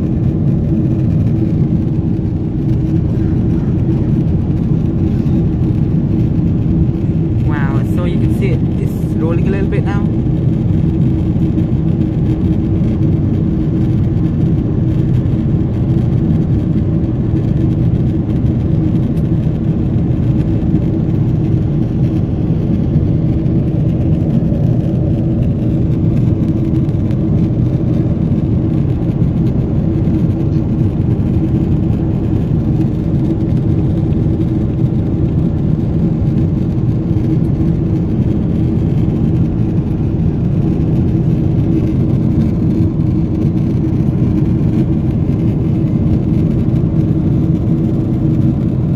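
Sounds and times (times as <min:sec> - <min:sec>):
constant low hum: 0:00.0 - 0:48.9
jet engines and rushing airflow: 0:00.0 - 0:48.9.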